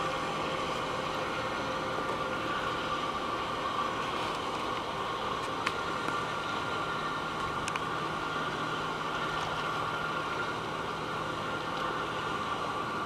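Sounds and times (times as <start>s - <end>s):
boat engine running: 0.0s - 13.0s
steady high whine: 0.0s - 13.0s.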